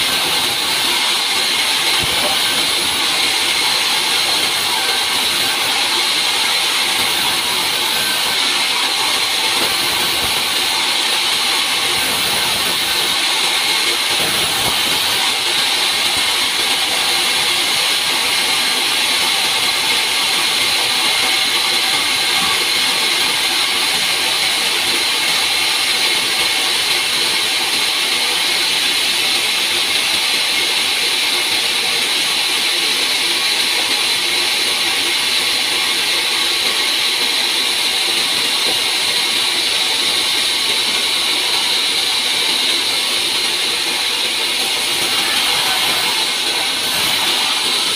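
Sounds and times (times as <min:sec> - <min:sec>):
band saw whining: 0:00.0 - 0:47.9.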